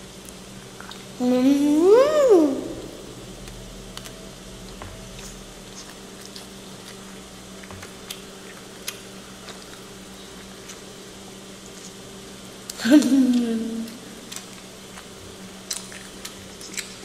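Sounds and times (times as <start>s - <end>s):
eating and food handling: 0.0s - 17.0s
steady low hum: 0.0s - 17.0s.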